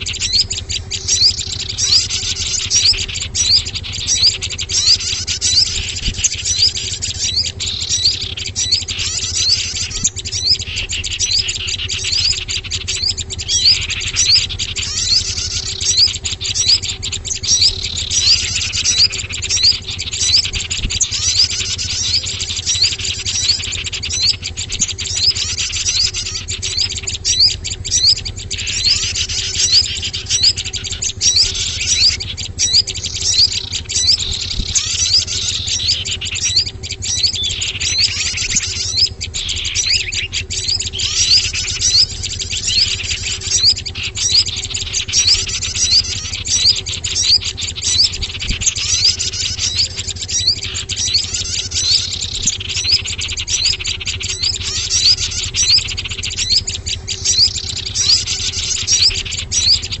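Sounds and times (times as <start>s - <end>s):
songbirds chirping and twittering: 0.0s - 60.0s
steady low hum: 0.0s - 60.0s.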